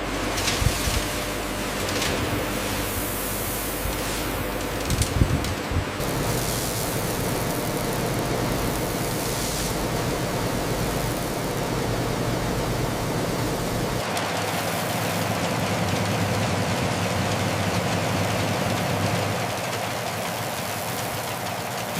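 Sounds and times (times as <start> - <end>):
industrial machinery hum and hiss: 0.0 - 21.9.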